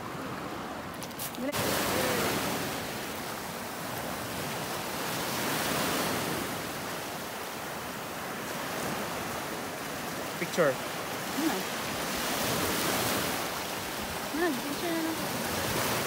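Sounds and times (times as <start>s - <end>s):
sea waves on rocky shore: 0.0s - 16.0s.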